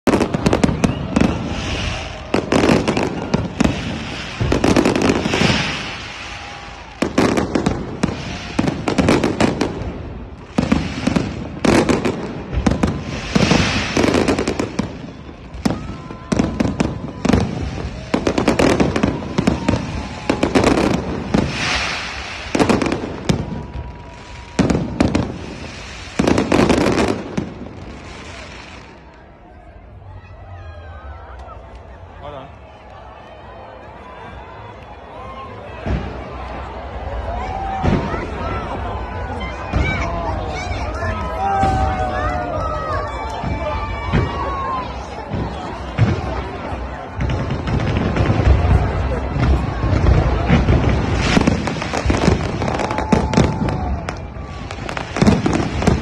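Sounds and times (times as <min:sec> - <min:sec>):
fireworks booming and crackling: 0:00.0 - 0:30.2, 0:32.7 - 0:56.0.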